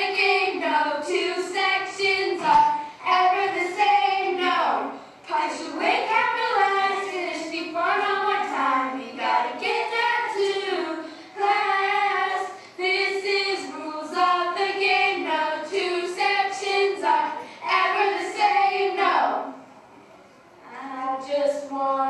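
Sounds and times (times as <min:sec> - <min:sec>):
children singing: 0:00.0 - 0:19.6.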